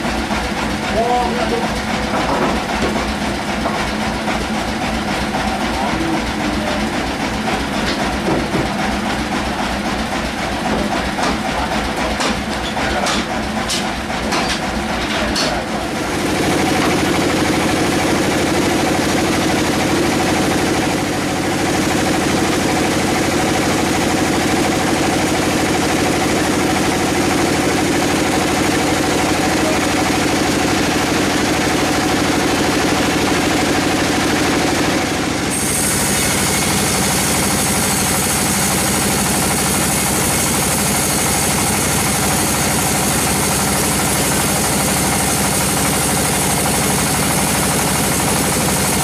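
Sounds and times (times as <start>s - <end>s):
sawmill machinery chugging: 0.0s - 49.0s
steady machine hum: 0.0s - 49.0s.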